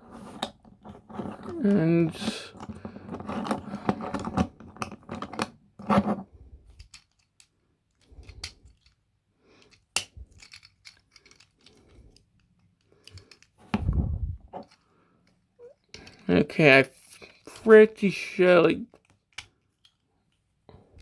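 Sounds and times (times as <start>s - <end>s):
plastic toy parts clicking and scraping: 0.0s - 20.5s.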